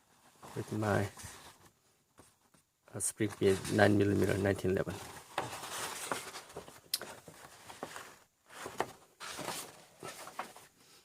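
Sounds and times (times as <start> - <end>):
paper rustling: 0.0 - 2.6, 3.2 - 10.7.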